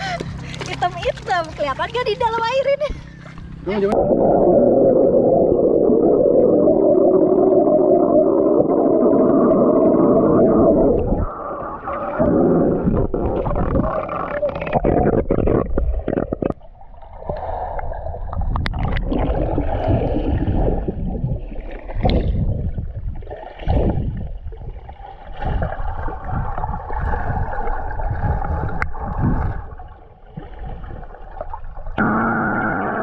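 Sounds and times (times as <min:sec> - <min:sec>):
muffled water sloshing and gurgling: 0:00.0 - 0:33.0.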